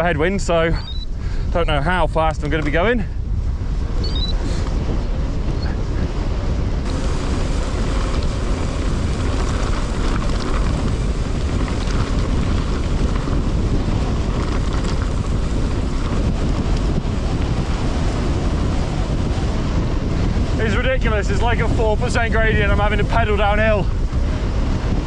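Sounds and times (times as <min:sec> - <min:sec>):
wind blasting over microphone: 0:00.0 - 0:25.0.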